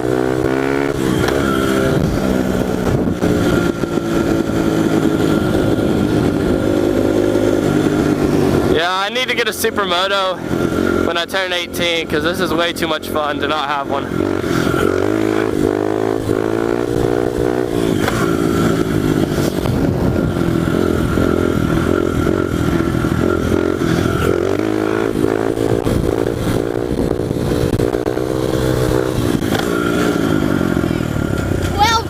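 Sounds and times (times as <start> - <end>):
loud motorcycle engine revving: 0.0 - 32.0.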